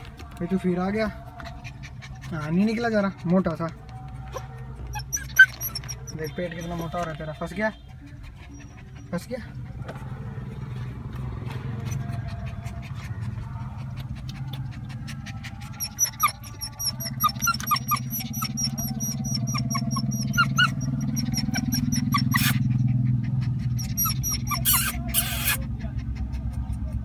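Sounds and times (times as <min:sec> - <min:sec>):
puppy whimpering: 0:01.1 - 0:10.1, 0:11.5 - 0:27.0.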